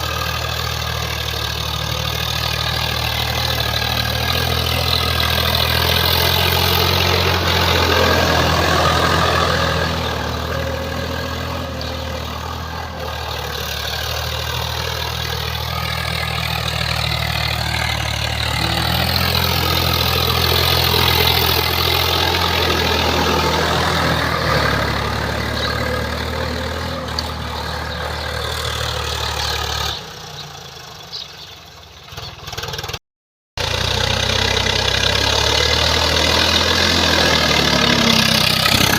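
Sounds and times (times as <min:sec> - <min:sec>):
tractor diesel engine running: 0:00.0 - 0:33.0, 0:33.6 - 0:38.9.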